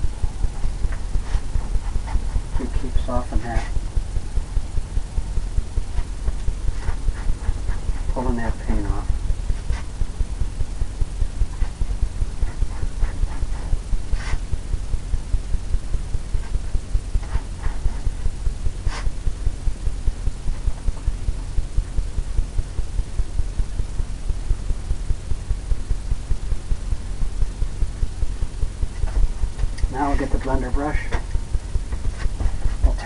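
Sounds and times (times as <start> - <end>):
low throbbing hum: 0.0 - 33.0.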